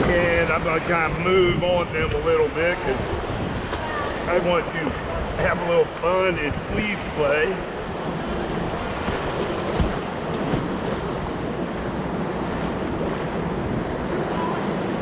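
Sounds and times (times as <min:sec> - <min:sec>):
wind noise on microphone: 0:00.0 - 0:04.3, 0:06.2 - 0:15.0
whitewater rushing: 0:00.0 - 0:15.0.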